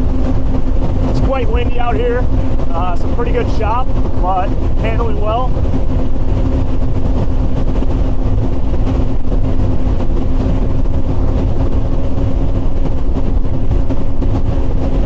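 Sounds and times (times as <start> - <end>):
outboard engines droning: 0.0 - 15.0
wind and water rushing: 0.0 - 15.0.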